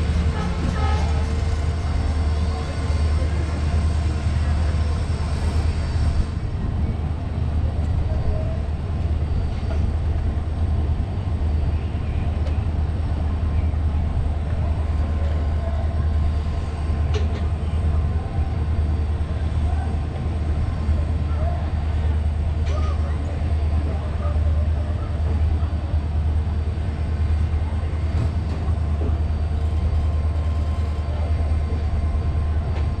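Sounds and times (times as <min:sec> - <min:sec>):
passenger train rumbling on track: 0:00.0 - 0:33.0.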